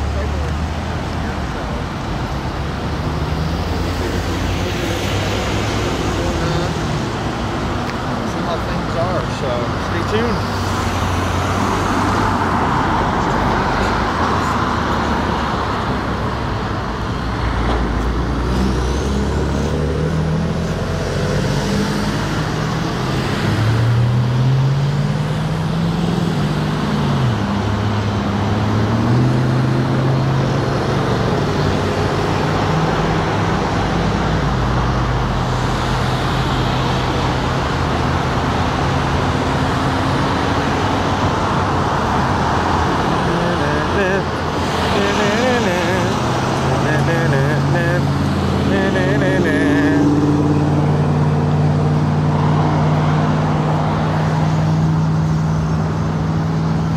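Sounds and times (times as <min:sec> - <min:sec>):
cars and trucks driving past: 0:00.0 - 0:56.9
vehicle engines: 0:00.0 - 0:56.9.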